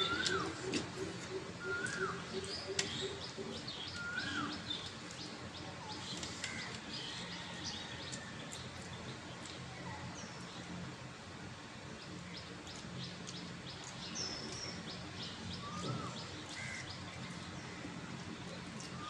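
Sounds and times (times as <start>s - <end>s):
birds chirping: 0.0s - 10.8s, 11.8s - 19.0s
steady low hum: 0.0s - 19.0s.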